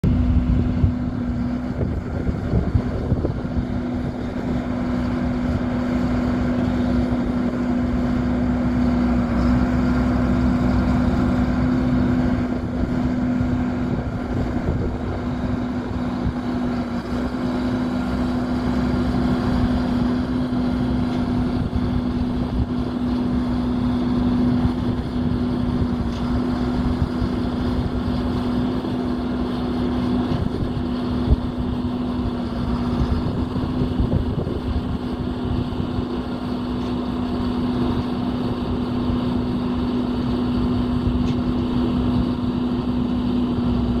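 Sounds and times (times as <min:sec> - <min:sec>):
diesel truck engine running: 0:00.0 - 0:44.0.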